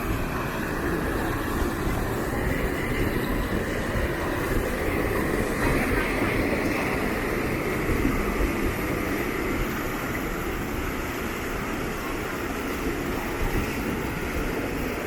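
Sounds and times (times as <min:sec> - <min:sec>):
water rushing over a dam: 0:00.0 - 0:15.0.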